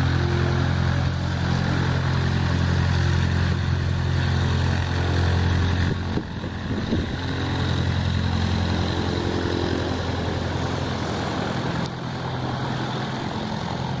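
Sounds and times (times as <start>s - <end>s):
small plane engine droning: 0.0s - 14.0s.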